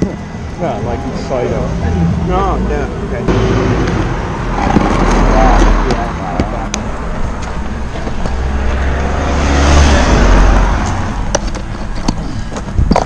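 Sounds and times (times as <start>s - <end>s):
car passing: 0.0s - 12.5s.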